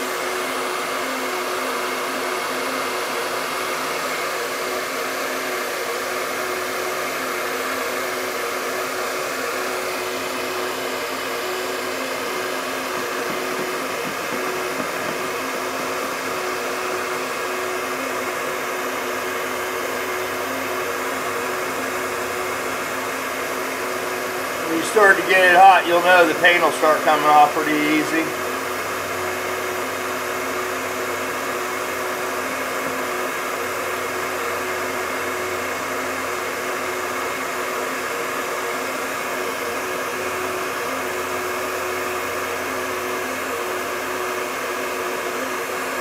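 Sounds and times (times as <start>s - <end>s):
heat gun fan whirring: 0.0s - 46.0s.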